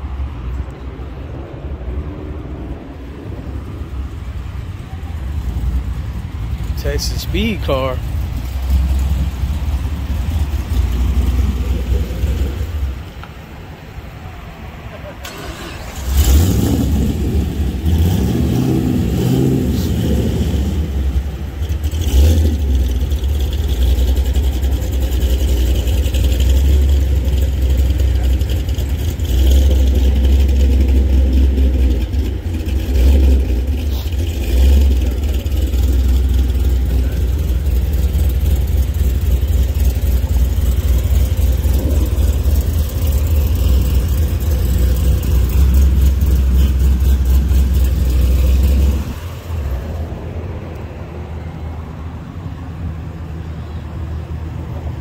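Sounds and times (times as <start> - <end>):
car engine revving: 1.7 - 51.0.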